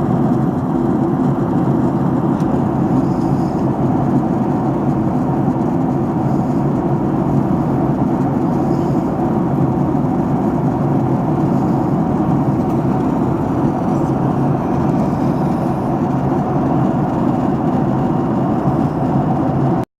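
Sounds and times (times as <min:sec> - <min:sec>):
airliner cabin rumble: 0:00.0 - 0:19.9.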